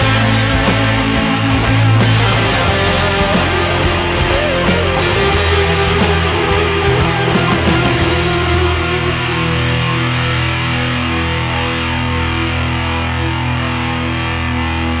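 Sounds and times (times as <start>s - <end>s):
distorted electric guitar chord: 0.0s - 15.0s.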